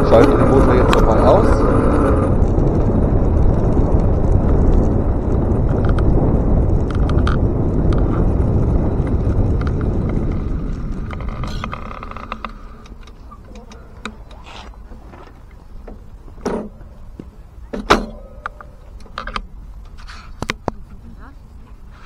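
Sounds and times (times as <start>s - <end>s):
bicycle rolling rumble: 0.0s - 22.0s.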